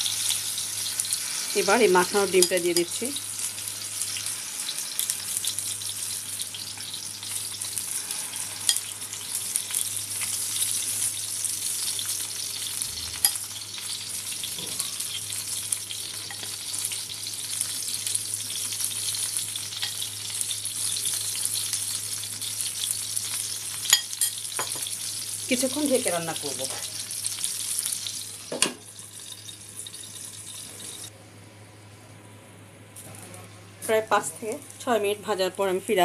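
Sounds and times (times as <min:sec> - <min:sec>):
food sizzling in hot oil: 0:00.0 - 0:31.1.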